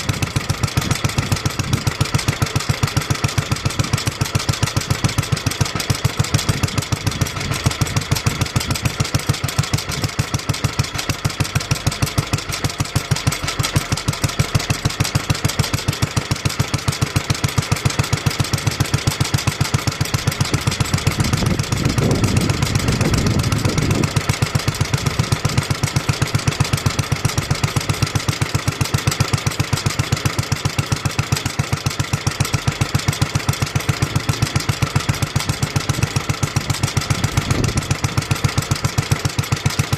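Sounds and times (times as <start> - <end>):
stationary engine idling: 0.0 - 39.9.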